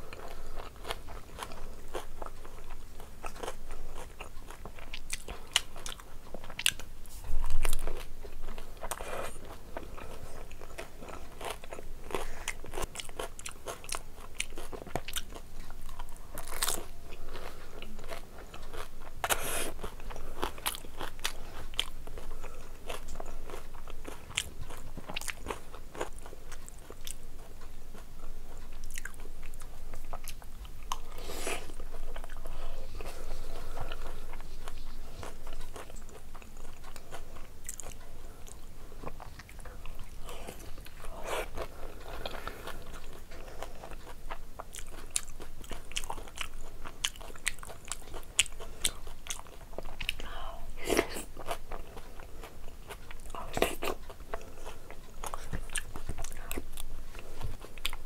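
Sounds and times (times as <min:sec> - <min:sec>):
person crunching and chewing: 0:00.0 - 0:58.0.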